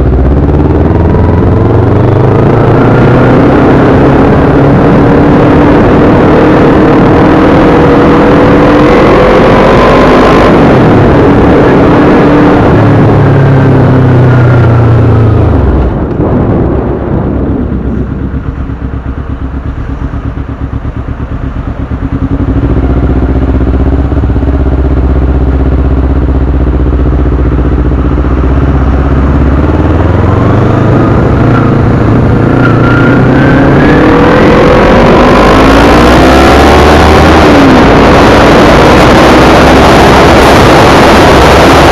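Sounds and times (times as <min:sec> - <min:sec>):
motorcycle engine accelerating: 0:00.0 - 0:41.9
wind rush on microphone: 0:00.0 - 0:41.9.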